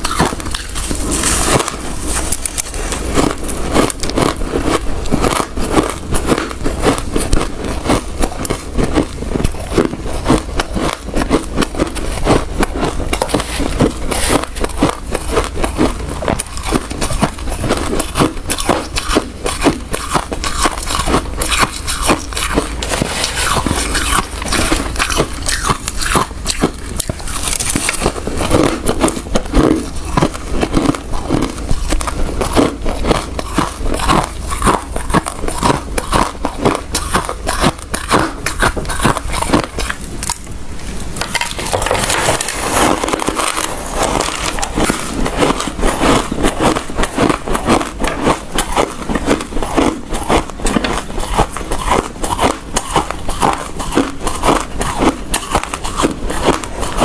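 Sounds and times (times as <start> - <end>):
person chewing ice: 0.0 - 57.0.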